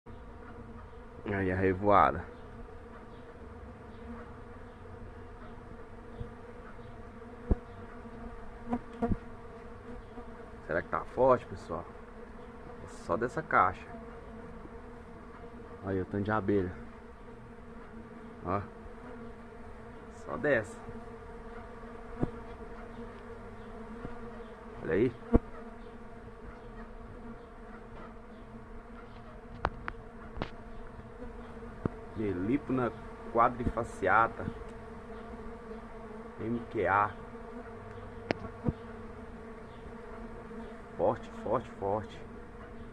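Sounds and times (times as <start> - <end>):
bees buzzing: 0.1 - 42.9.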